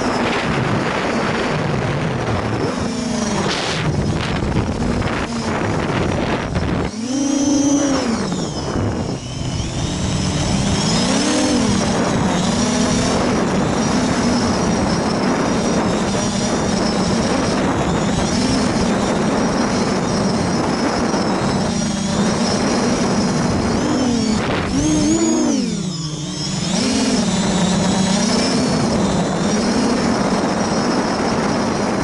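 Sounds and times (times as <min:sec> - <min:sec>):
quadcopter motors buzzing: 0:00.0 - 0:32.0.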